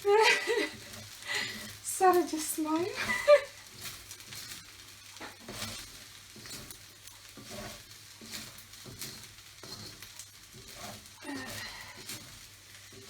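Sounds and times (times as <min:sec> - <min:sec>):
food sizzling: 0:00.0 - 0:13.0
spatula scraping a pan: 0:00.0 - 0:13.0.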